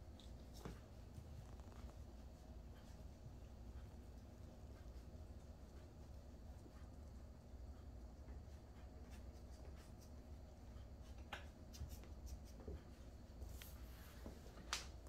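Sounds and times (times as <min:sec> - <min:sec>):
faint clicks and scuffs: 0:00.0 - 0:15.0
low room hum: 0:00.0 - 0:15.0.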